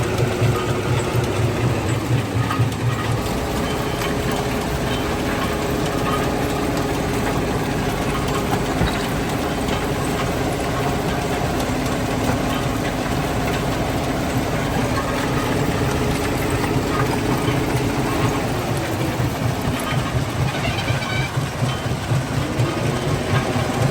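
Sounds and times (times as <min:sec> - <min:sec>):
small mechanical knocks: 0:00.0 - 0:23.9
stone-crushing machinery drone: 0:00.0 - 0:23.9.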